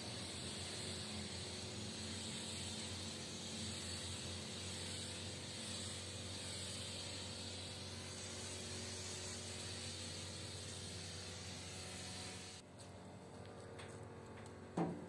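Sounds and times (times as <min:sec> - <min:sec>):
pressure washer spray hissing: 0:00.0 - 0:12.6.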